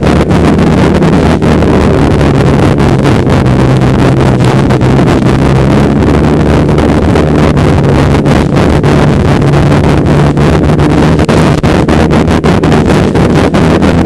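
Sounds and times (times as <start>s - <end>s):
snowmobile engine running: 0.0s - 14.0s
wind noise on microphone: 0.0s - 14.0s.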